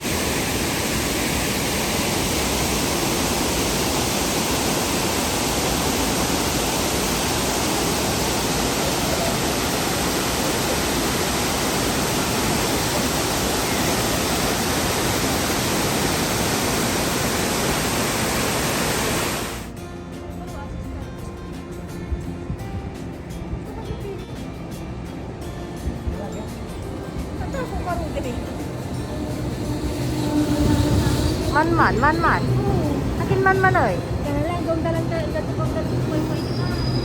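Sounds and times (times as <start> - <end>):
waterfall rushing: 0.0 - 19.7, 26.9 - 37.0.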